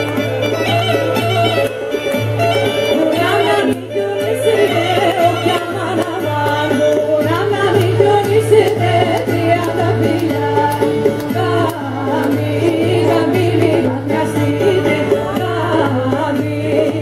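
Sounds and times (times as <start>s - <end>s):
lutes: 0.0s - 17.0s
violin: 0.0s - 17.0s.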